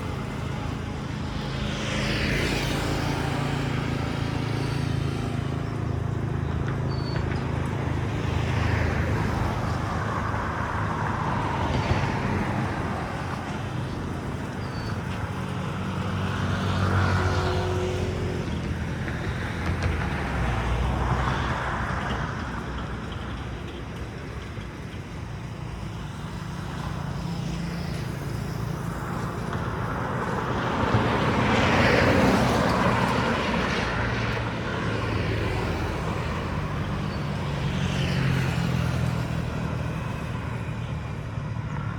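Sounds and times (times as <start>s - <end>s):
vehicles passing: 0.0s - 41.9s.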